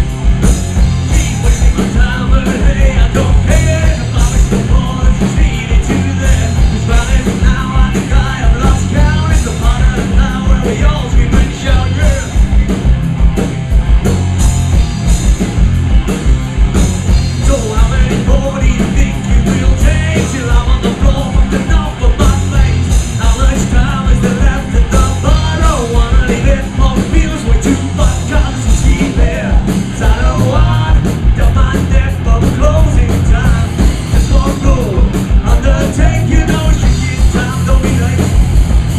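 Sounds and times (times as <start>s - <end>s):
fast driving drum beat: 0.0s - 38.9s
rock band playing: 0.0s - 38.9s
person singing: 1.1s - 12.4s, 17.4s - 38.4s.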